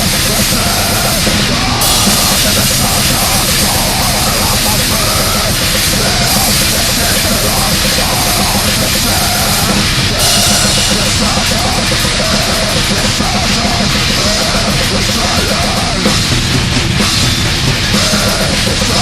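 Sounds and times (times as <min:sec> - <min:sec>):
distorted guitars: 0:00.0 - 0:19.0
drum kit: 0:00.0 - 0:19.0.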